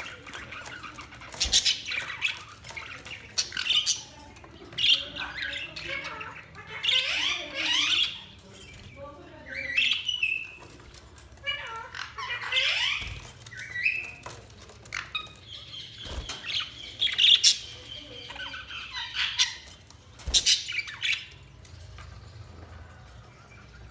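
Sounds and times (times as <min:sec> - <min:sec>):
budgerigars chirping and squawking: 0:00.0 - 0:23.9.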